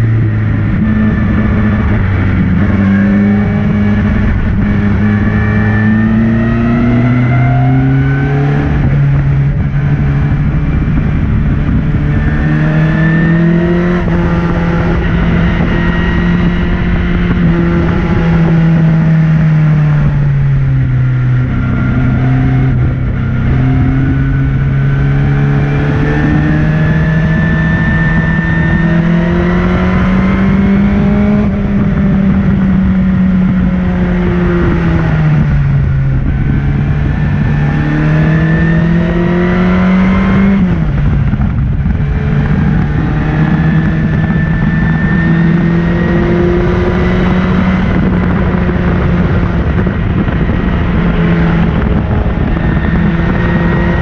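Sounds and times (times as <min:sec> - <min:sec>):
race car engine at high revs: 0:00.0 - 0:54.0
wind and road noise: 0:00.0 - 0:54.0.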